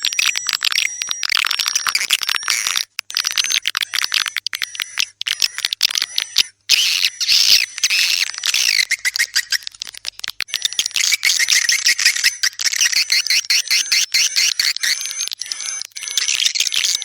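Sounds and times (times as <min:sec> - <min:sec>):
sharp clicks: 0:00.0 - 0:17.0
swiftlets chirping: 0:00.4 - 0:17.0.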